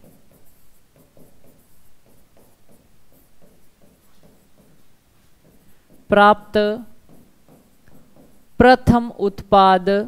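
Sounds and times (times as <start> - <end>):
marker pen writing on whiteboard: 0.0 - 9.3.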